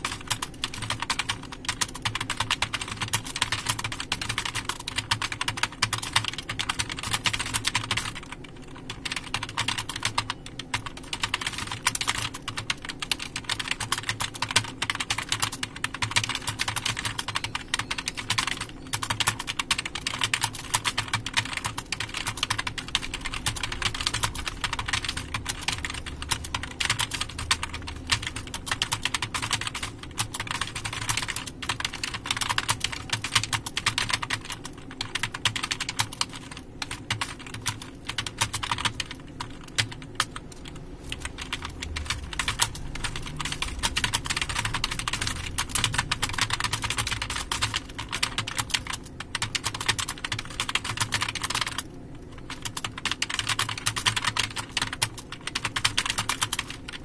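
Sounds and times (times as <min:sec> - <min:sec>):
typing on computer keyboard: 0:00.0 - 0:57.0.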